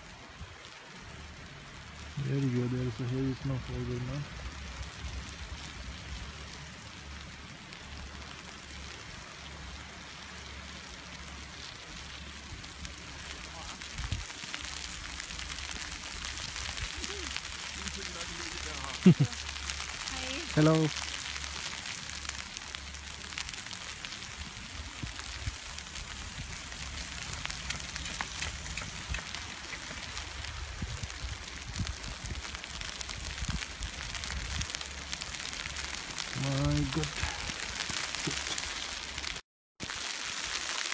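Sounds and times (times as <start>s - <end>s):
faint ticks of falling snow: 0.0s - 40.9s
steady hiss: 0.0s - 40.9s
wind rumbling on microphone: 3.6s - 39.4s.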